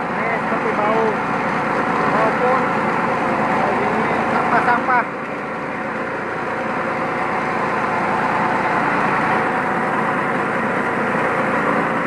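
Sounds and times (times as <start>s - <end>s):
rice mill running: 0.0s - 12.0s.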